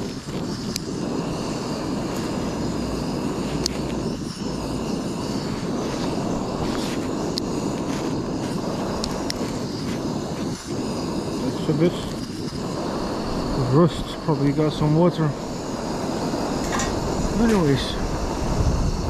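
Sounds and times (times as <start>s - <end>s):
gas stove burner roaring: 0.0s - 19.0s.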